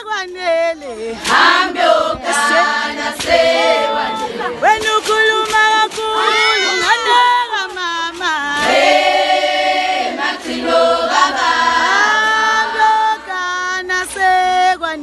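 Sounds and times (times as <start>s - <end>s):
crowd of women singing: 0.0s - 15.0s.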